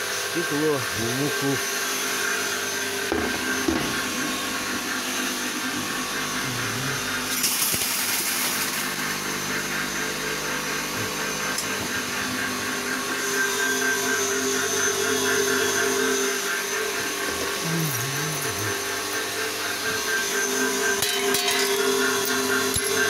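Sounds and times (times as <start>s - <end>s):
electric mill motor hum: 0.0s - 23.0s.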